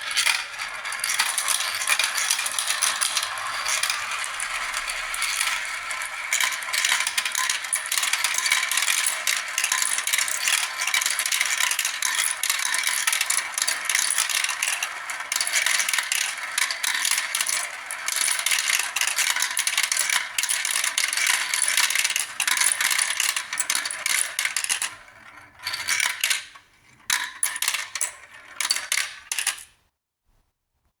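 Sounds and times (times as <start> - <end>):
marbles rattling down a run: 0.0 - 29.7.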